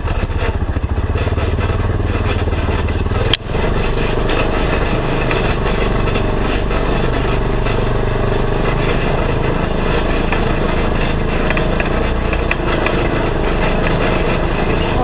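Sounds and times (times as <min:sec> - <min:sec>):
off-road vehicle engine running: 0:00.0 - 0:15.0
vehicle clicks and knocks: 0:00.0 - 0:15.0.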